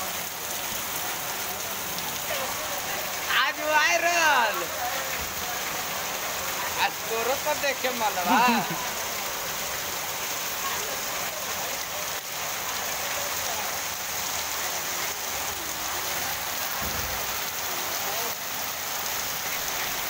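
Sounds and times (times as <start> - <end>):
heavy rain on road and roofs: 0.0 - 20.0.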